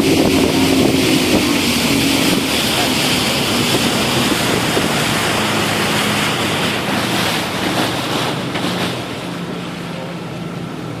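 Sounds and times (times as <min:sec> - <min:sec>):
wind buffeting microphone: 0:00.0 - 0:09.3
engine hum: 0:00.0 - 0:11.0
water rushing past hull: 0:00.0 - 0:11.0.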